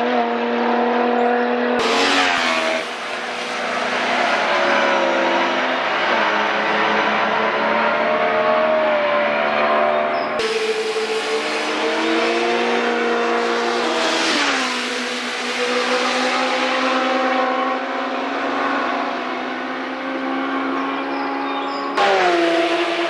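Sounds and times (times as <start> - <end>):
race car engine passing by: 0.1 - 23.0.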